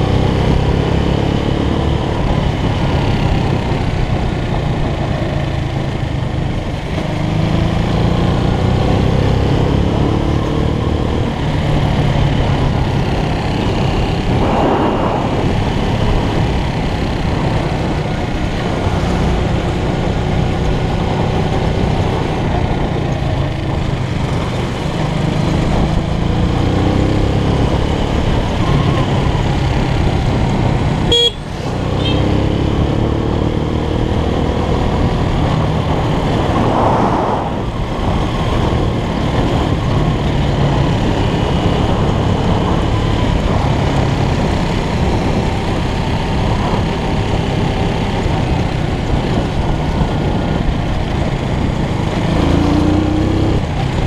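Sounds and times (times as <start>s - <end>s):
motorcycle engine revving: 0.0s - 54.0s
wind rumble on microphone: 0.0s - 54.0s.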